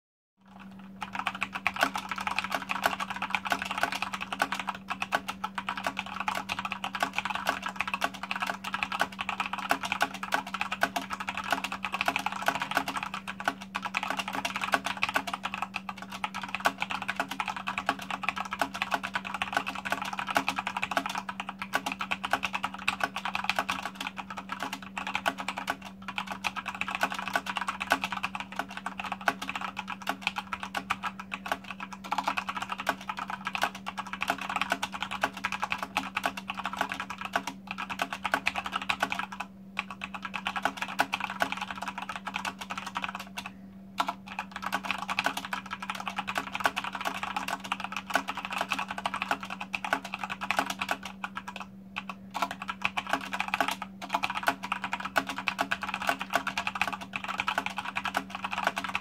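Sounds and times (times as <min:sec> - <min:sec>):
fast typing on mechanical keyboard: 0:00.4 - 0:59.0.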